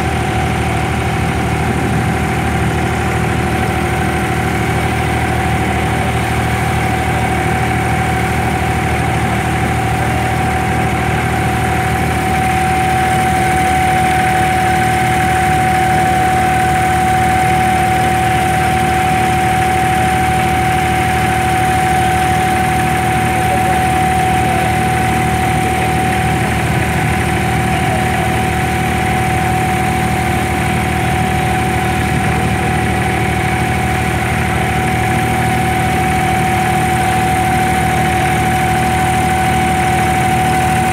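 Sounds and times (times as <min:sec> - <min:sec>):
boat engine humming: 0:00.0 - 0:40.9
engine whine: 0:00.0 - 0:40.9.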